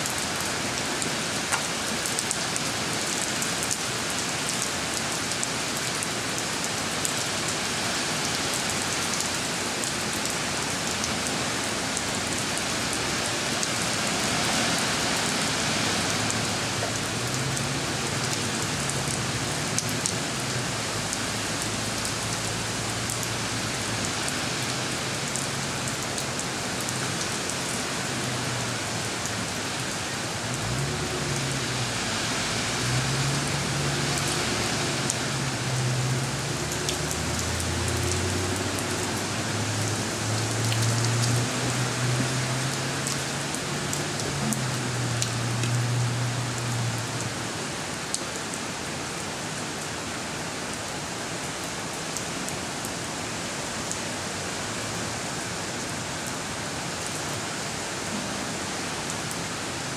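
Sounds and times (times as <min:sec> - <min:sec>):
rain on concrete and puddles: 0:00.0 - 0:59.9.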